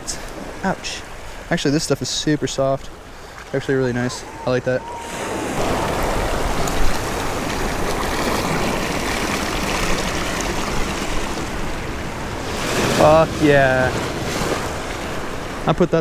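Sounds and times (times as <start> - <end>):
surf washing over rocks: 0.0 - 16.0.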